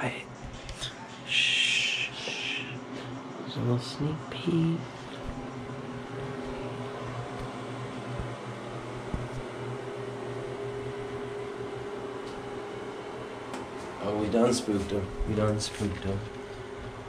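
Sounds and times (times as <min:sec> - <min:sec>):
ventilation fan humming: 0:00.0 - 0:17.0.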